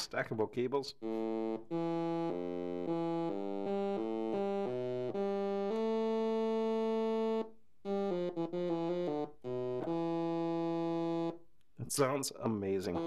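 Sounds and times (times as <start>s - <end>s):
synthesizer notes: 0.9s - 11.4s.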